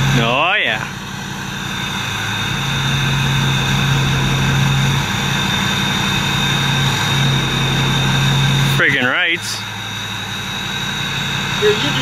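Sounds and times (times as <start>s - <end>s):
thin high whine: 0.0s - 12.0s
truck engine idling: 0.0s - 12.0s.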